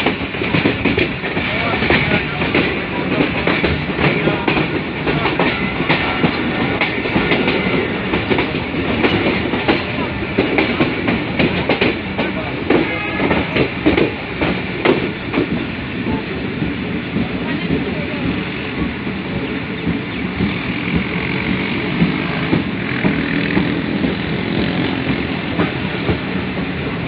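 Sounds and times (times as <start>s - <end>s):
steady train rumble: 0.0s - 27.0s
train coach rattling: 0.0s - 27.0s
train wheels clattering over rail joints: 0.0s - 27.0s.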